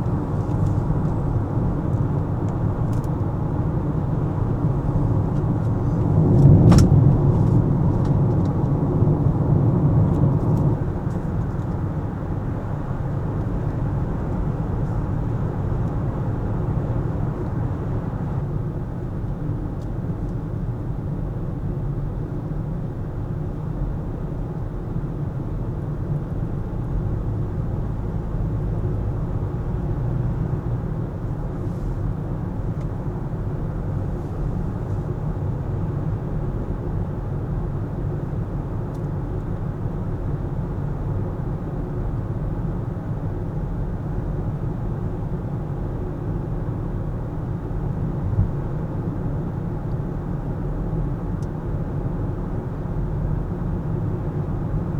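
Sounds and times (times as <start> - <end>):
car road and engine rumble: 0.0 - 54.9.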